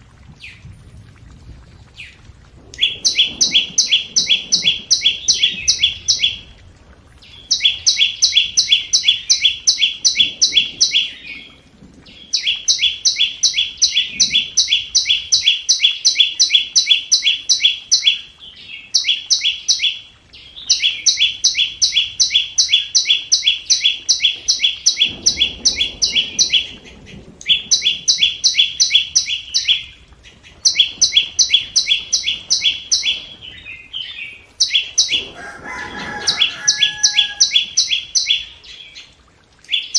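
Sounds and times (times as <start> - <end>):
bird sharp high ticking calls: 2.8 - 6.5, 7.2 - 11.5, 12.2 - 26.8, 27.4 - 35.3, 36.2 - 39.9.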